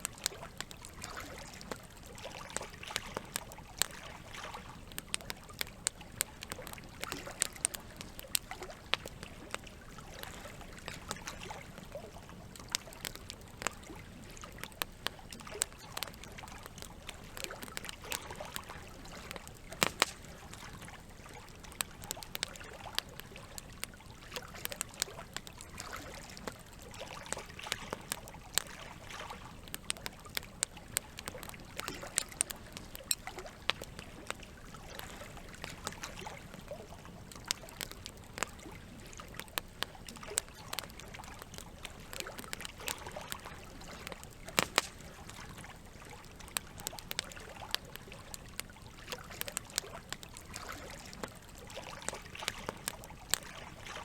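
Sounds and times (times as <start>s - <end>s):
campfire crackling and popping: 0.0s - 54.0s
running water: 0.0s - 54.0s.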